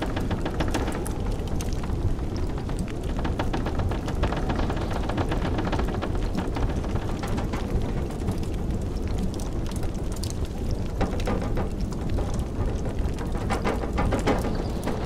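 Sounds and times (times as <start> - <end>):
blizzard wind rumbling: 0.0 - 15.0
wood fire crackling: 0.0 - 15.0.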